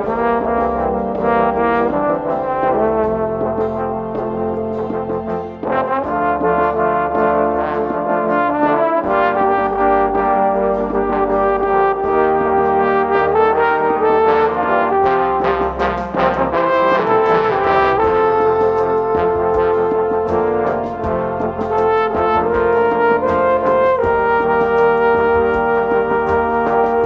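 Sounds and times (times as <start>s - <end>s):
trombone ensemble playing chords: 0.0s - 27.0s.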